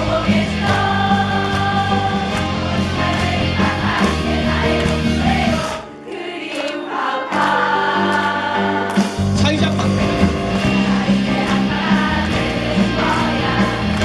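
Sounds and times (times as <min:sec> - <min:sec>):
band accompaniment: 0:00.0 - 0:06.0, 0:08.1 - 0:14.0
voices singing held notes: 0:00.0 - 0:09.1, 0:10.4 - 0:14.0.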